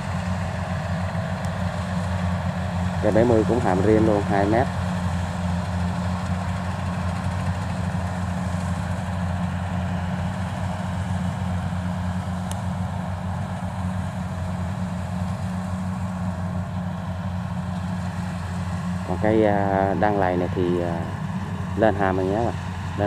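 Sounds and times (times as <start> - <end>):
diesel machinery engines droning: 0.0 - 23.0.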